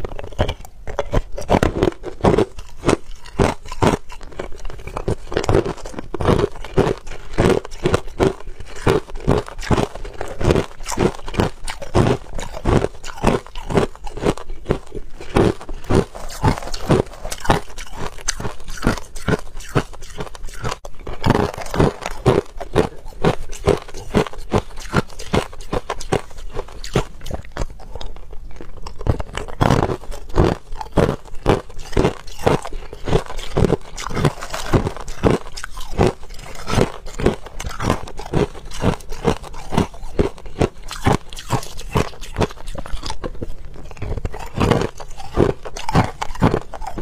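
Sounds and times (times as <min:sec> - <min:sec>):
person chewing crushed ice: 0:00.0 - 0:47.0.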